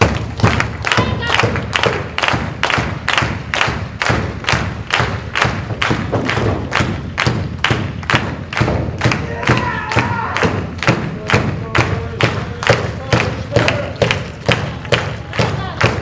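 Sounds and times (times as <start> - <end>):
crowd clapping in rhythm: 0.0 - 16.0
low thuds: 0.0 - 16.0.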